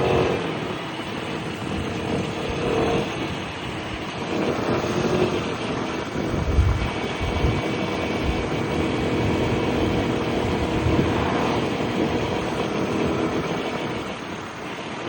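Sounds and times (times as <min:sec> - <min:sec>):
scooter engine running: 0:00.0 - 0:15.0
wind and road noise: 0:00.0 - 0:15.0.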